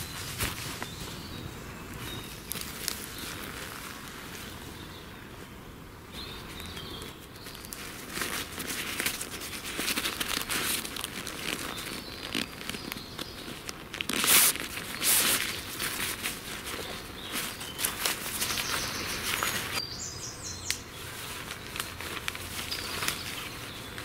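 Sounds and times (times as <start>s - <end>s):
fabric rustling and crinkling: 0.0s - 5.5s, 6.2s - 19.8s, 21.0s - 24.0s.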